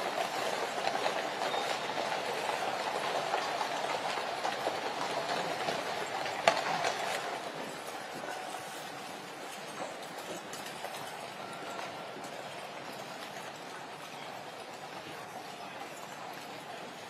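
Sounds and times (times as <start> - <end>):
carriage wheels rumbling on road: 0.0 - 17.0
horses' hooves clattering: 0.0 - 17.0.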